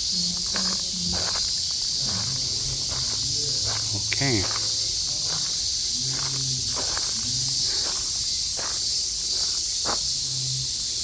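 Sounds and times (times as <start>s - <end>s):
cicadas chorus: 0.0s - 11.0s
footsteps on a path: 0.2s - 10.3s.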